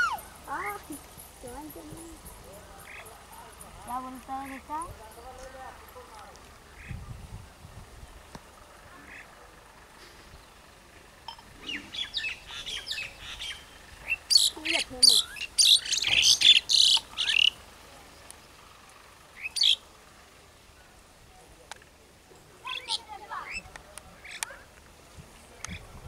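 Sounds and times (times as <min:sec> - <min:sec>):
birds calling sharply: 0:00.0 - 0:07.2, 0:07.9 - 0:21.0, 0:22.4 - 0:25.9.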